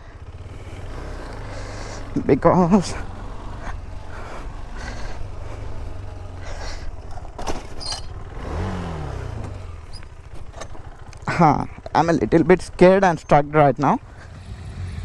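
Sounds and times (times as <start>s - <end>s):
engine note rising and falling: 0.0s - 15.0s
motorcycle engine idling: 0.0s - 15.0s.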